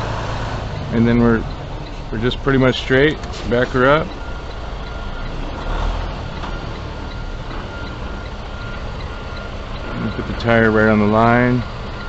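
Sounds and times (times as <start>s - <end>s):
diesel engine running: 0.0s - 12.0s
truck backup alarm beeping: 0.0s - 12.0s.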